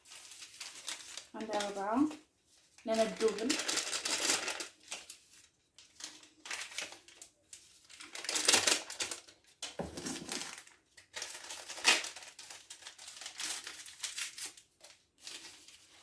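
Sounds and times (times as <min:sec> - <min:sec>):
sachets crinkling and tearing: 0:00.0 - 0:16.0.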